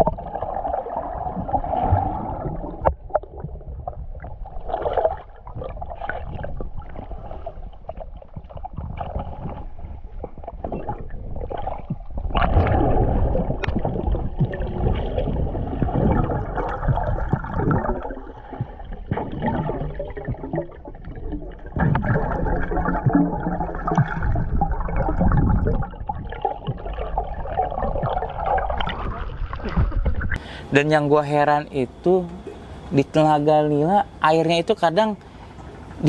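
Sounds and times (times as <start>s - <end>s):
water gurgling underwater: 0.0s - 30.4s.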